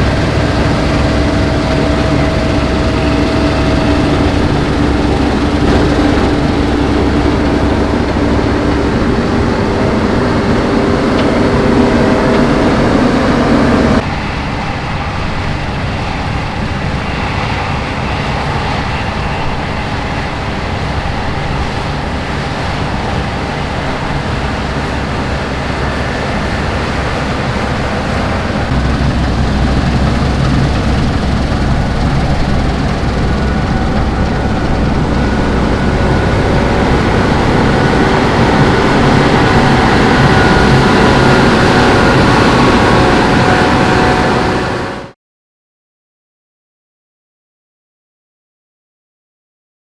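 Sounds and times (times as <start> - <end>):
harvest machinery running: 0.0 - 14.0, 16.6 - 45.1.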